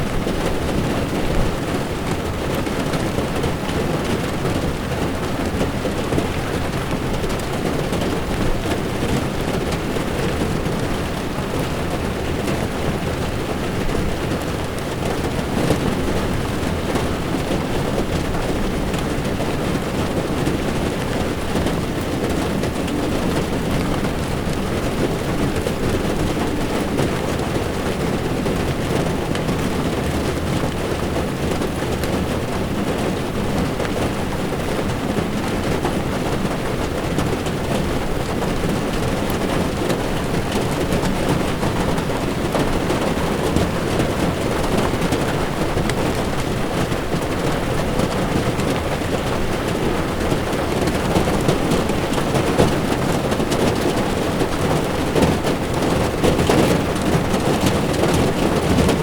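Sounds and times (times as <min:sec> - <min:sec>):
heavy rain on car: 0:00.0 - 0:59.0.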